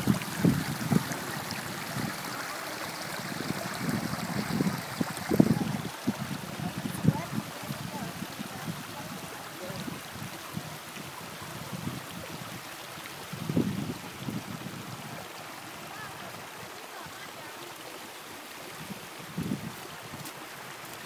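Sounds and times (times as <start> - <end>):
wind gust on microphone: 0.0 - 16.5, 18.7 - 20.3
stream running over rocks: 0.0 - 21.0.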